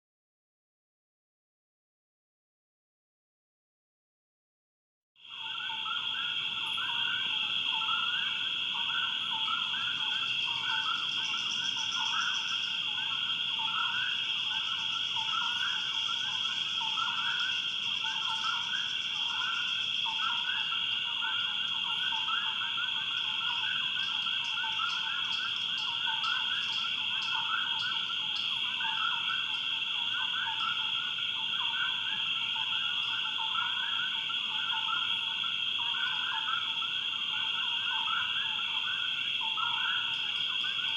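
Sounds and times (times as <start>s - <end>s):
frogs and insects chorus: 5.2s - 40.9s.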